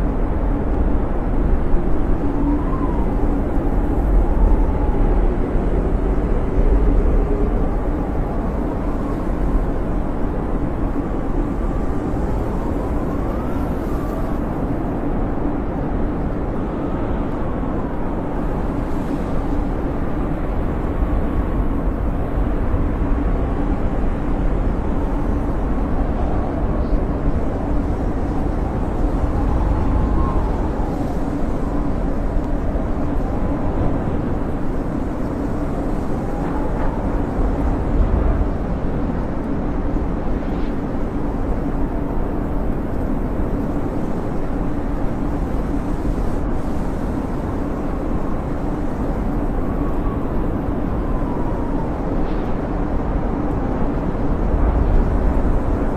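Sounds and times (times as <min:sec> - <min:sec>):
snowstorm wind howling: 0:00.0 - 0:55.9.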